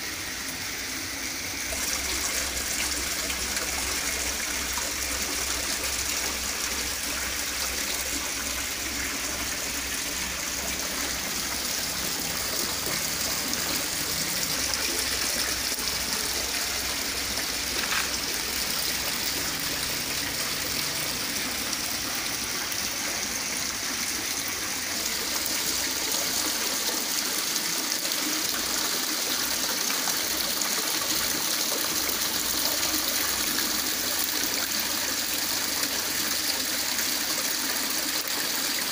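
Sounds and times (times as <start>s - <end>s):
small waterfalls splashing into pool: 0.0s - 38.9s.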